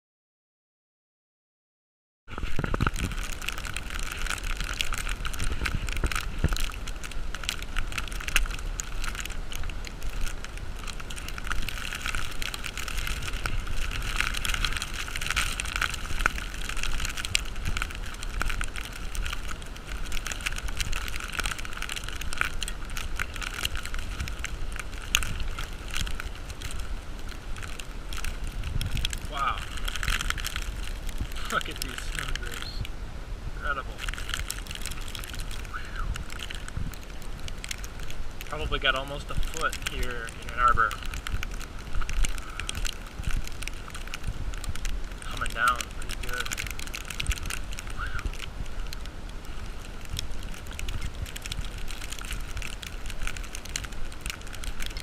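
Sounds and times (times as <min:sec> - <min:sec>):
snow falling with crackles: 0:02.3 - 0:55.0
wind: 0:02.3 - 0:55.0.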